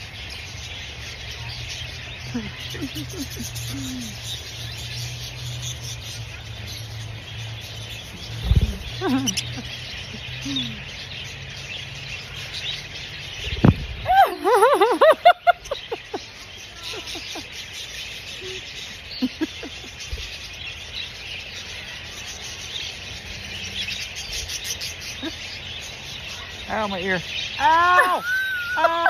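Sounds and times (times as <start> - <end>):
budgerigars chirping and chattering: 0.0 - 29.0.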